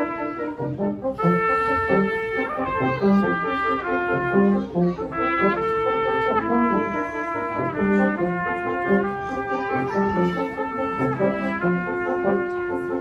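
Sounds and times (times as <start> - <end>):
brass quartet playing: 0.0 - 13.0.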